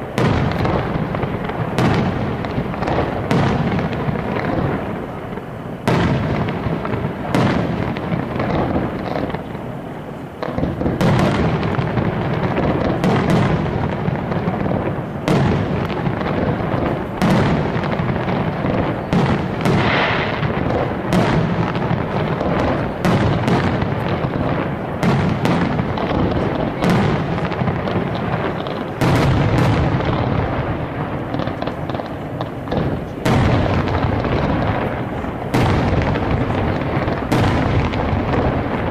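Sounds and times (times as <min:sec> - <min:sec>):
firework crackling: 0:00.0 - 0:38.9
firework shells bursting: 0:00.0 - 0:38.9.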